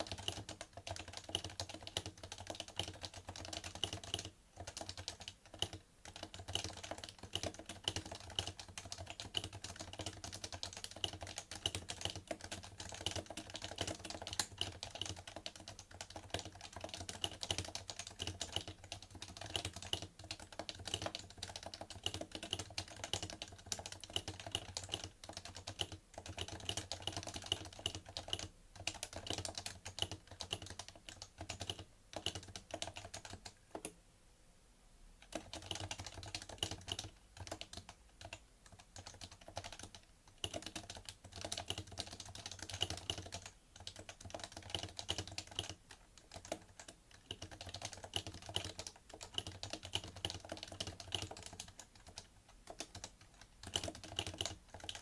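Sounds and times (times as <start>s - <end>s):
fast keyboard typing: 0.0s - 34.0s, 35.2s - 55.0s.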